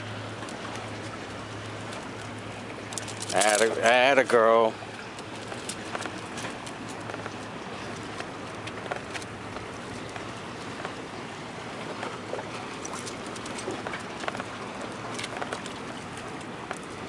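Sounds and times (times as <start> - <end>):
water rushing: 0.0 - 17.0
wind: 0.0 - 17.0.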